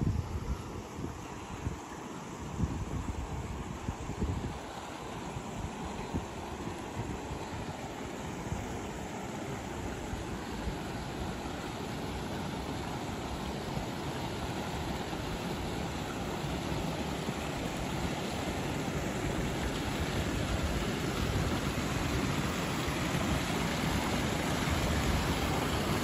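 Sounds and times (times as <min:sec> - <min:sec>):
creek water rushing over logs: 0:00.0 - 0:26.0.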